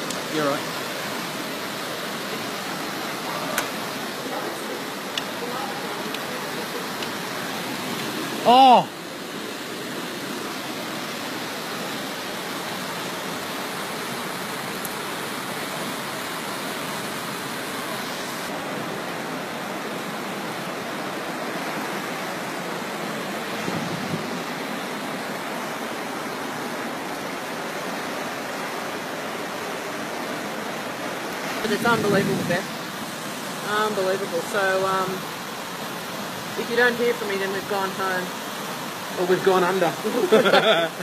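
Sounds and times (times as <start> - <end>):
water rushing torrent: 0.0 - 41.0.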